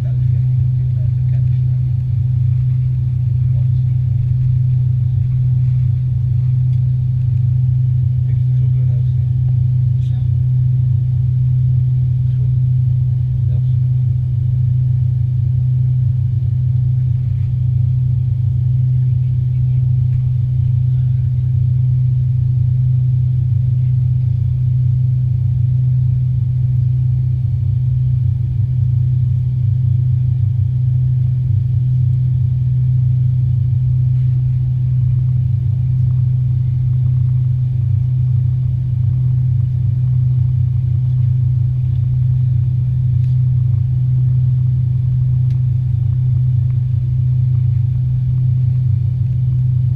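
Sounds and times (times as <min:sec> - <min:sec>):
airliner cabin engine drone: 0:00.0 - 0:49.9.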